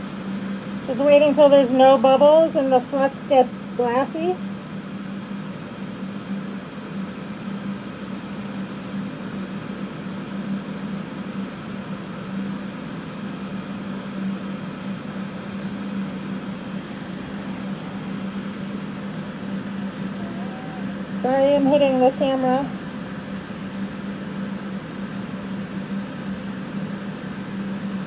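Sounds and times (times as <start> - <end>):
extraction fans humming: 0.0 - 28.0.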